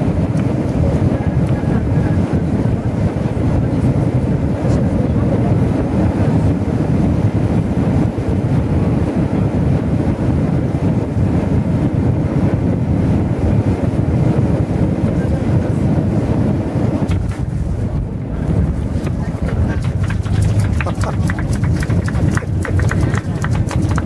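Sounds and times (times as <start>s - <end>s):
airliner cabin engine noise: 0.0s - 24.0s
rushing airflow: 0.0s - 24.0s.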